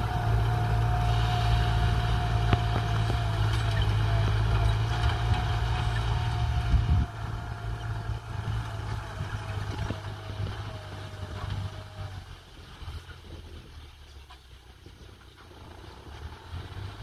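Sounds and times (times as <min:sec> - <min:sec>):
tractor diesel engine rumble: 0:00.0 - 0:17.0.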